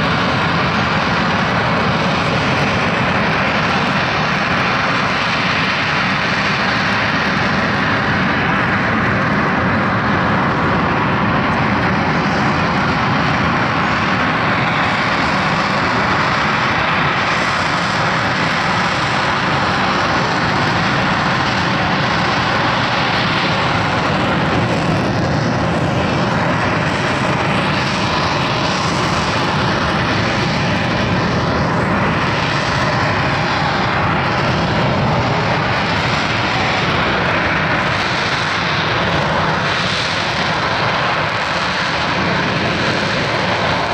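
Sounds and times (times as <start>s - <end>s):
jet engine roar: 0.0s - 43.9s.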